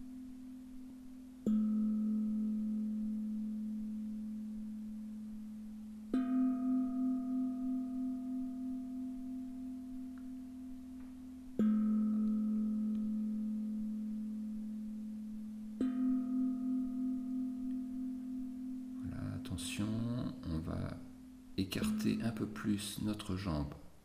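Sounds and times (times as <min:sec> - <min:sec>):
singing bowls ringing: 0:00.0 - 0:20.2.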